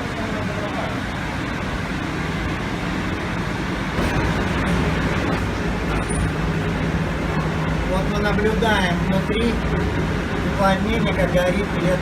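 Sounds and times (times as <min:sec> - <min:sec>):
burner fan and flame rushing: 0:00.0 - 0:12.0.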